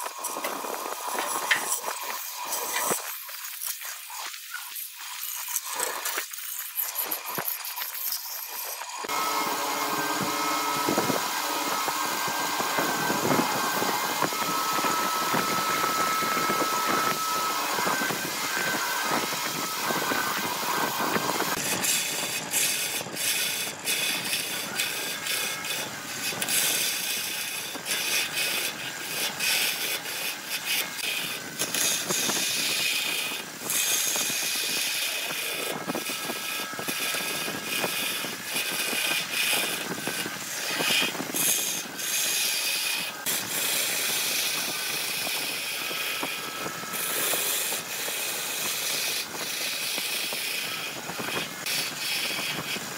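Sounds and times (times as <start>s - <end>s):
tool scraping wood: 0.0s - 52.9s.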